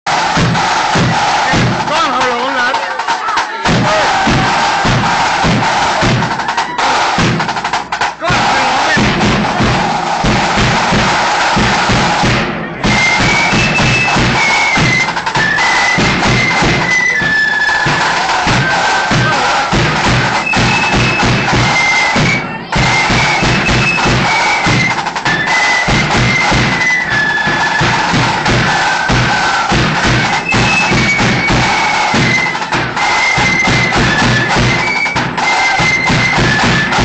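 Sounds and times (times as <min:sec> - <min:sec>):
bass drum beats: 0:00.1 - 0:37.0
rapid snare drumming: 0:00.1 - 0:37.0
high flute melody: 0:00.6 - 0:07.3, 0:11.0 - 0:37.0.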